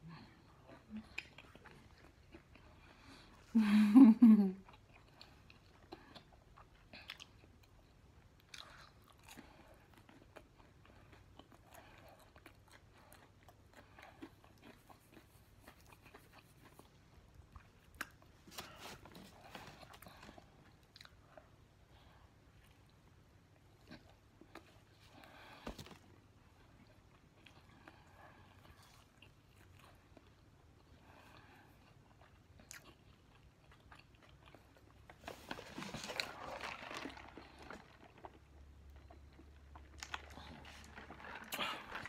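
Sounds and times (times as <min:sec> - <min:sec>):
chewing and lip smacks: 0:00.5 - 0:03.5, 0:04.6 - 0:21.6, 0:22.6 - 0:35.2, 0:35.8 - 0:42.0.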